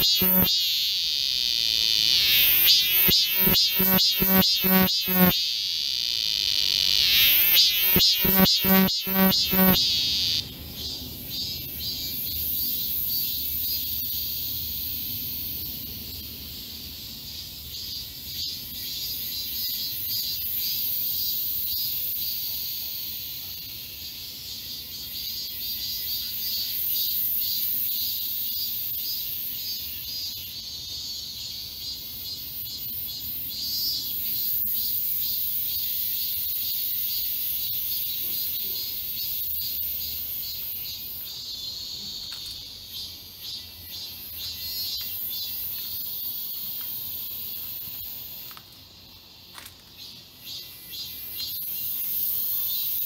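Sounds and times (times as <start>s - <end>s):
cicadas buzzing: 0.0s - 53.0s.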